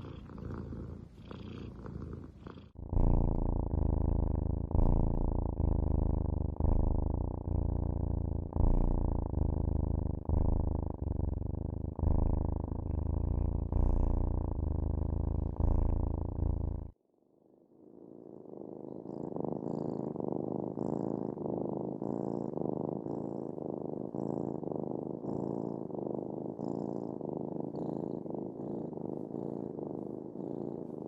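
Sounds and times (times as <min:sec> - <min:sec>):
cat purring: 0:00.0 - 0:17.0, 0:17.8 - 0:31.0.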